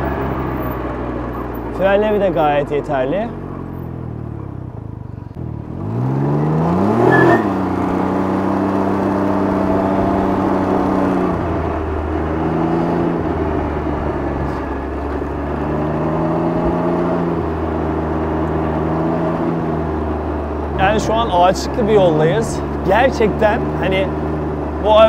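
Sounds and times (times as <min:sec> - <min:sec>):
three-cylinder engine revving: 0:00.0 - 0:25.0.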